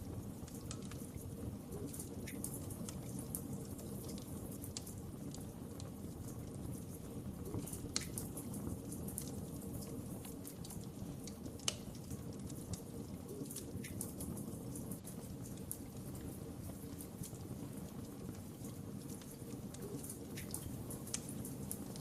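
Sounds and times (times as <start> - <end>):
wood fire crackling: 0.0 - 22.0
fire popping sharply: 0.1 - 22.0.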